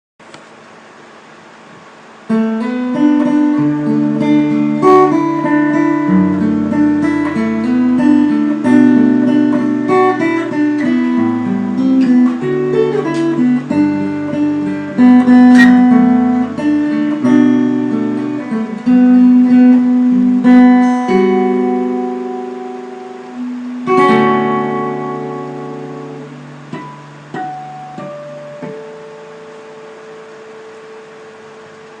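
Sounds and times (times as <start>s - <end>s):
electric guitar picked chords: 1.8s - 32.0s.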